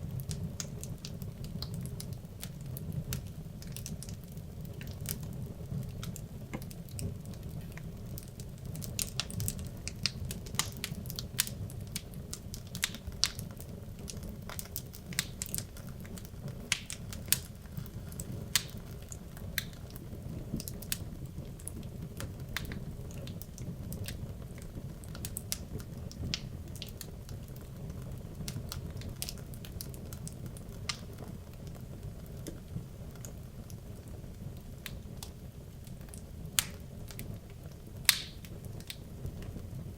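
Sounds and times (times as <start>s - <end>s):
burning wood crackling and popping: 0.0s - 39.9s
flames rumbling: 0.0s - 39.9s.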